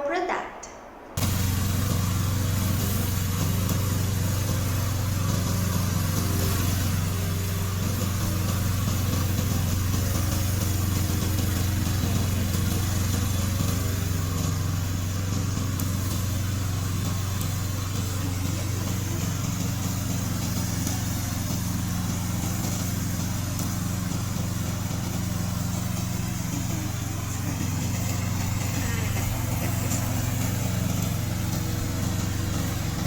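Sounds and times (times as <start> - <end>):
lawn mower engine running: 1.2 - 33.0.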